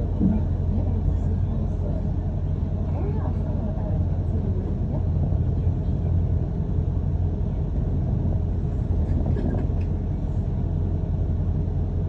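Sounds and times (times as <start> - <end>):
bus rumbling inside cabin: 0.0 - 12.0.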